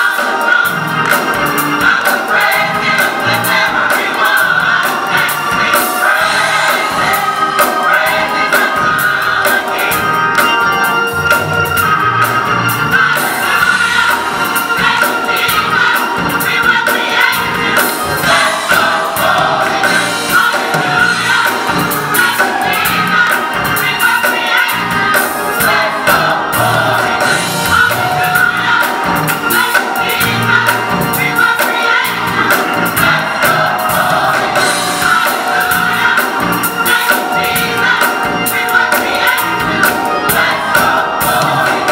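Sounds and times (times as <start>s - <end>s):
gospel choir singing: 0.0s - 41.9s
steady beat: 0.1s - 41.9s.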